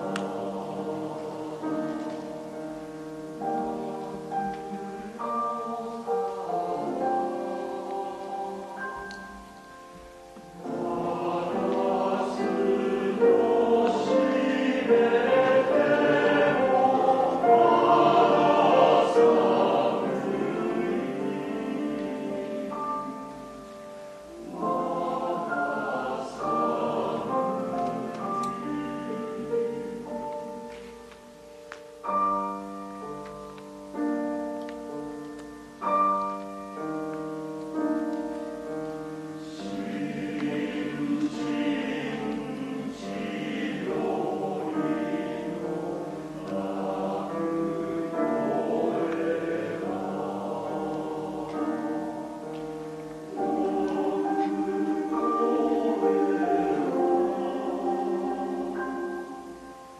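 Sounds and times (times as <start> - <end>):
men's choir singing: 0.0 - 9.4, 10.5 - 23.7, 24.3 - 30.7, 39.4 - 59.9
grand piano accompaniment: 0.0 - 59.9.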